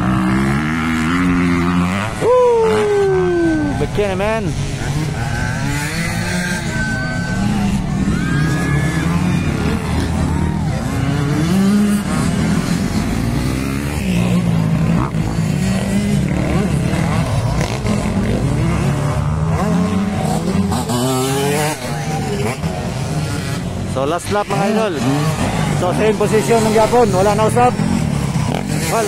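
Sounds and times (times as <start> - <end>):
dirt bike engines racing: 0.0 - 29.0.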